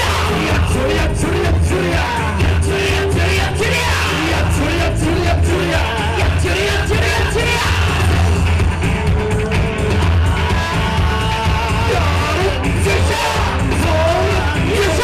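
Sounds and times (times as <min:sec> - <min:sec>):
loud dance music with beat: 0:00.0 - 0:15.0.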